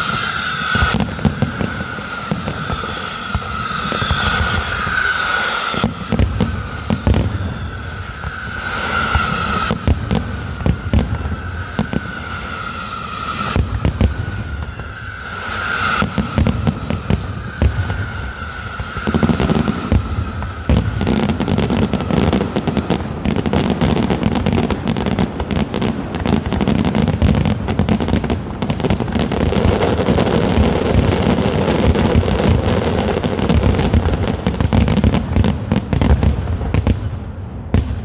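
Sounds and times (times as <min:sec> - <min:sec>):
descending firework whistle: 0:00.0 - 0:38.0
fireworks bangs and crackling: 0:00.0 - 0:38.0.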